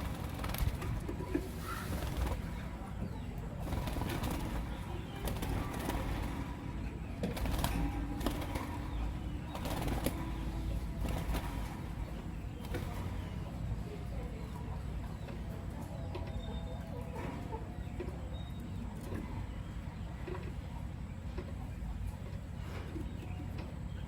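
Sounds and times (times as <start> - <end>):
lovebirds chirping: 0.0 - 24.0
low background rumble: 0.0 - 24.0.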